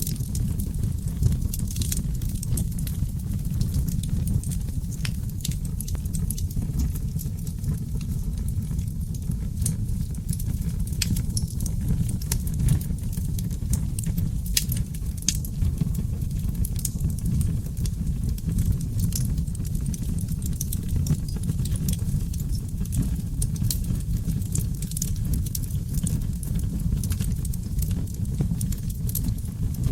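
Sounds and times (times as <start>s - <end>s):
logs crackling and popping: 0.0s - 29.9s
low rumble of flames: 0.0s - 29.9s.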